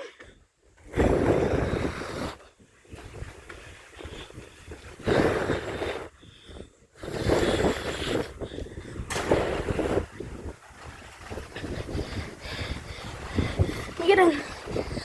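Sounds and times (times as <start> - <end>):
storm wind buffeting microphone: 0.8 - 15.0.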